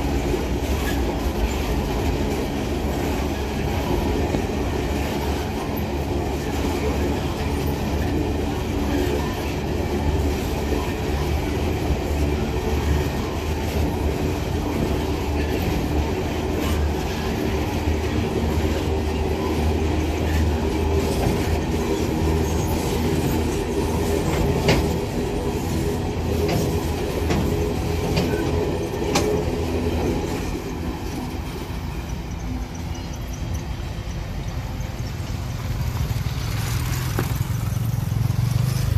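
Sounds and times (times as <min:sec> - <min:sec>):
rail joint clicks: 0:00.0 - 0:35.6
train wagons rumbling: 0:00.0 - 0:38.9
wheel squeal: 0:00.0 - 0:38.9.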